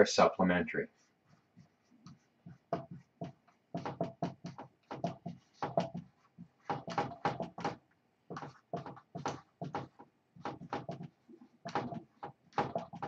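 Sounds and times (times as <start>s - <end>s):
marker writing on a whiteboard: 0.4s - 13.0s.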